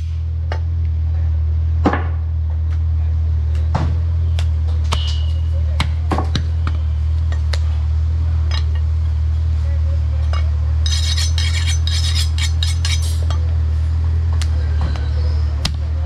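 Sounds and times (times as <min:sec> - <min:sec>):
loud low hum: 0:00.0 - 0:16.0.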